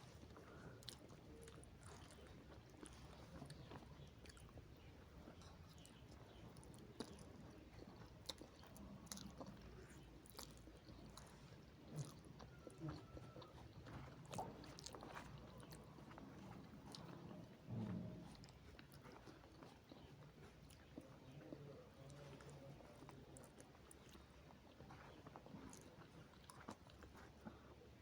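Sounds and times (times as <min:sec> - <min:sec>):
people chewing noodles: 0:00.0 - 0:28.0.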